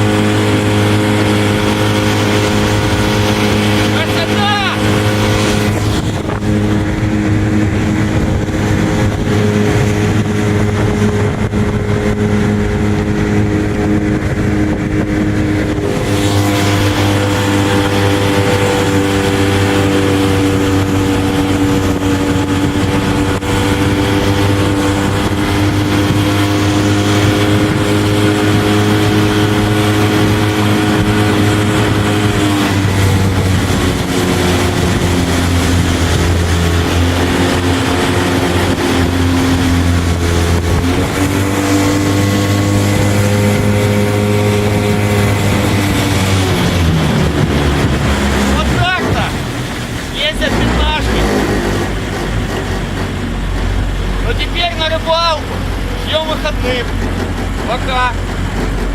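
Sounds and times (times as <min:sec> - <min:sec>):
outboard motor running: 0:00.0 - 0:58.9
water wash noise: 0:00.0 - 0:58.9.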